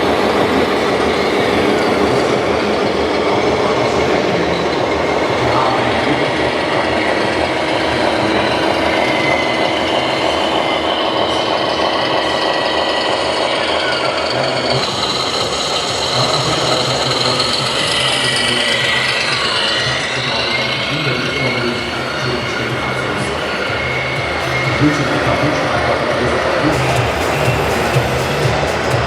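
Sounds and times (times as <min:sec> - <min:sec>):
small motors whining: 0:00.0 - 0:29.0.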